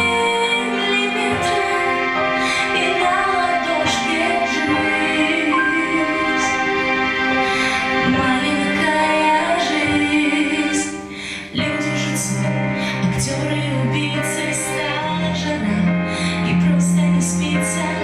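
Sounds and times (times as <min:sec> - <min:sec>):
sustained musical accompaniment: 0:00.0 - 0:18.0.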